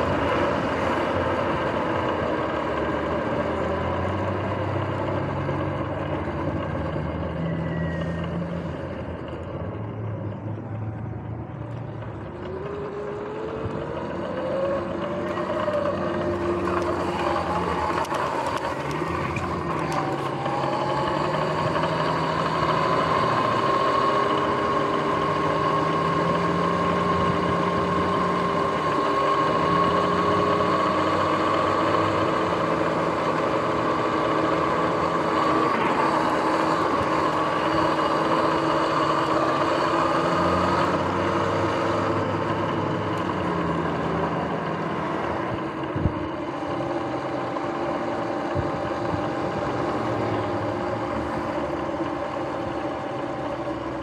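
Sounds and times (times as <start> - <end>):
electric motor and chain whine: 0.0 - 54.0
road noise: 0.0 - 54.0.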